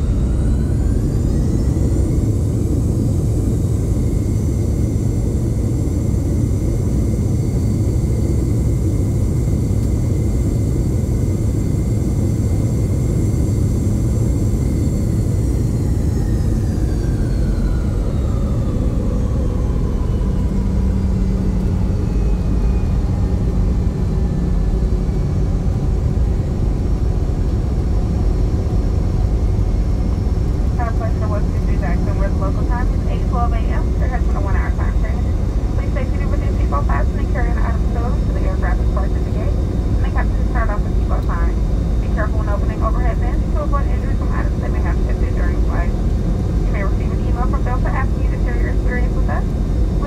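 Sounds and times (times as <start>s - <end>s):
heavy steady rumble: 0.0s - 50.0s
high jet engine whine: 0.0s - 50.0s.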